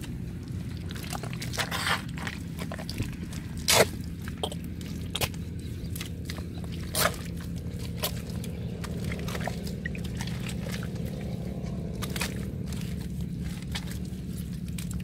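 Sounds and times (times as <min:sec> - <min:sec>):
hoe scraping wet mud: 0:00.0 - 0:15.0
low hum: 0:00.0 - 0:15.0.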